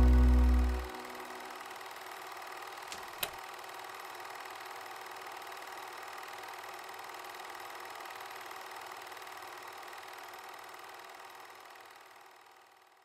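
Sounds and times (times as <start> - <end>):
film projector whir and hiss: 1.2 - 13.0.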